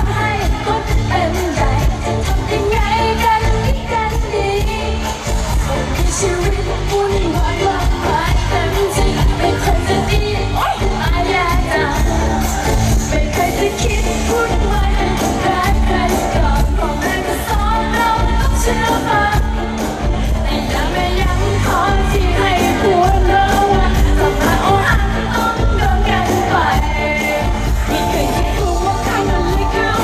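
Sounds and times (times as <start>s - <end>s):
loud live pop music: 0.0s - 30.0s
people singing into microphones: 0.0s - 30.0s.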